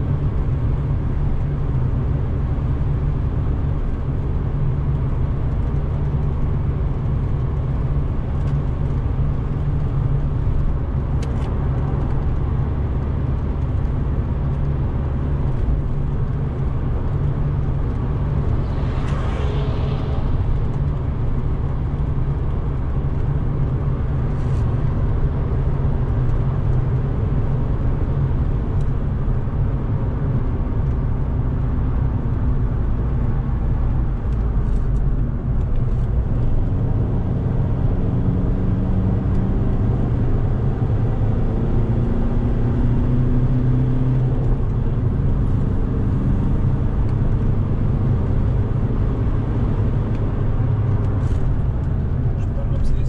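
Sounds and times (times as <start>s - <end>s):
diesel car engine drone: 0.0s - 53.0s
road noise: 0.0s - 53.0s.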